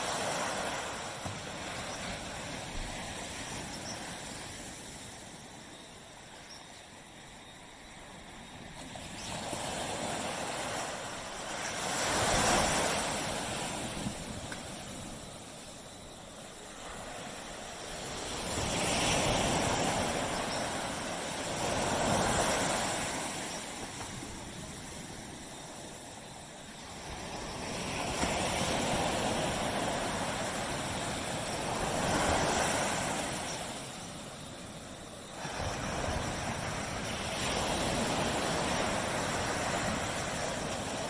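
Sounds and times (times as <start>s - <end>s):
ocean waves washing onto beach: 0.0s - 41.0s.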